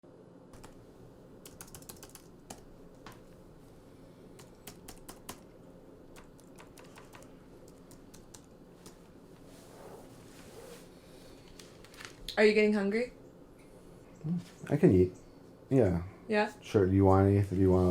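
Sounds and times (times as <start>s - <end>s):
low room hum: 0.0s - 17.9s.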